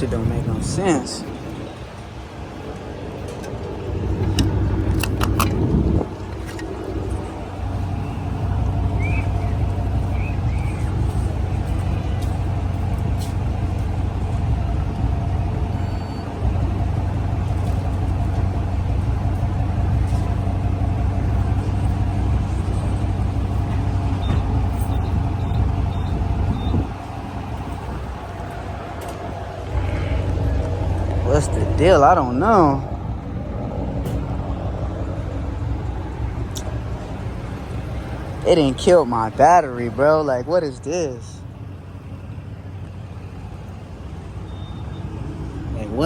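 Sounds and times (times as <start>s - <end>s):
car engine rumbling: 0.0s - 46.0s
road noise inside car: 0.0s - 46.0s.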